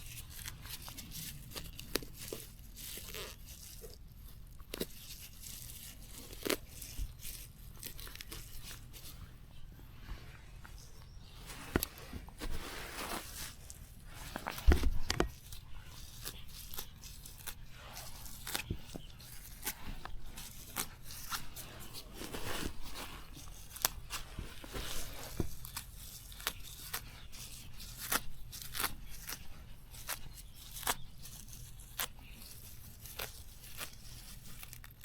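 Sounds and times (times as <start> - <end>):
plant stems snapping and tearing: 0.0 - 8.9, 14.1 - 35.0.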